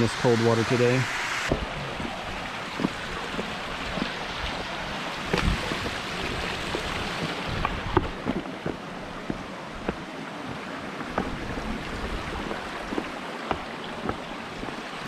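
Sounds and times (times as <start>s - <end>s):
waterfall and stream rushing: 0.0s - 15.0s.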